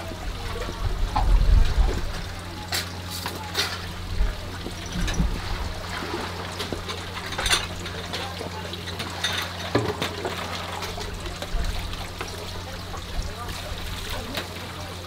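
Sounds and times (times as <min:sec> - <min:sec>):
faint background voices: 0:00.0 - 0:15.0
water trickling: 0:00.0 - 0:15.0.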